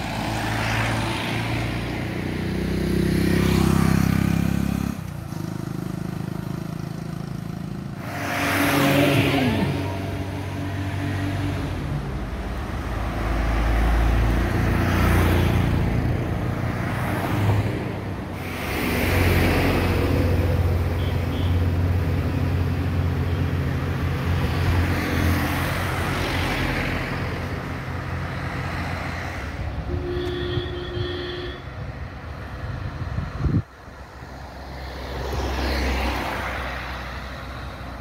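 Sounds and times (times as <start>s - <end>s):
cars and truck passing: 0.0s - 38.0s.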